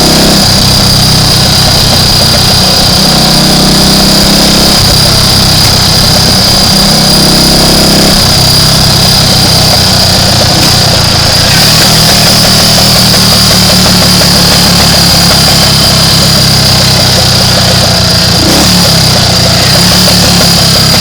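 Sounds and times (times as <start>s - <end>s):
motorcycle engine running: 0.0s - 21.0s
steady high whine: 0.0s - 21.0s.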